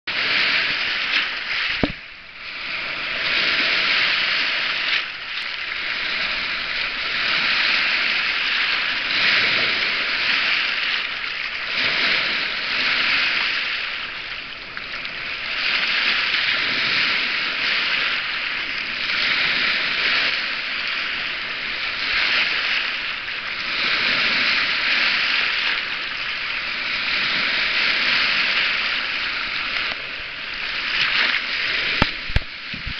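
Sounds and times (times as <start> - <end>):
waves washing over pebble shore: 0.1 - 32.9.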